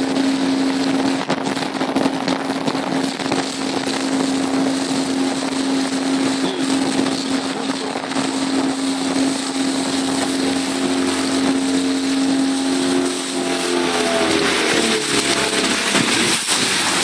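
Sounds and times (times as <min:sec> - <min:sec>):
motorboat engine hum: 0:00.0 - 0:17.0
water rushing past hull: 0:00.0 - 0:17.0
wind on microphone: 0:00.0 - 0:17.0.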